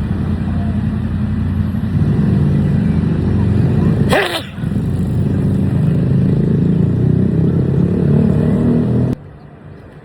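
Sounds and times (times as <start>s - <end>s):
vehicle engine droning: 0.0s - 9.4s.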